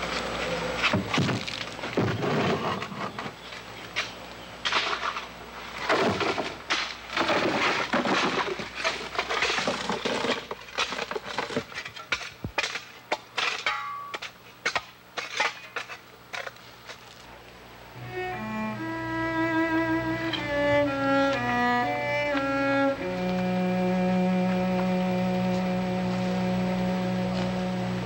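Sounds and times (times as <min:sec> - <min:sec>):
digging tools scraping stony soil: 0:02.0 - 0:17.4, 0:18.0 - 0:27.7.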